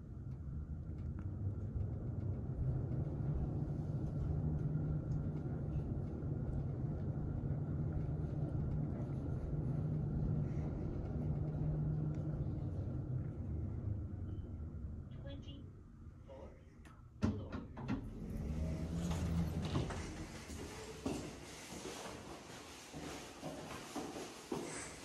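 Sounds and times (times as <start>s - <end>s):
elevator rumble and hum: 0.0s - 25.0s.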